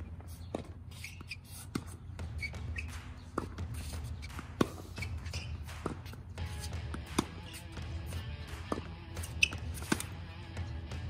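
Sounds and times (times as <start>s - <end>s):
tennis balls struck and bouncing: 0.0s - 11.0s.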